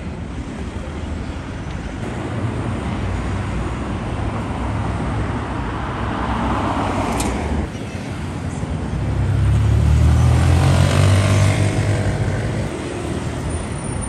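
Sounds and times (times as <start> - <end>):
city car traffic: 0.0 - 14.0.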